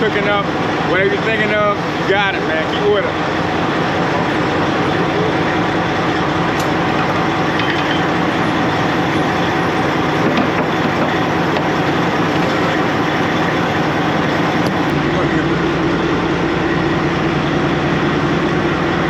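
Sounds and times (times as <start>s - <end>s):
road and tyre noise: 0.0s - 19.0s
truck diesel engine drone: 0.0s - 19.0s.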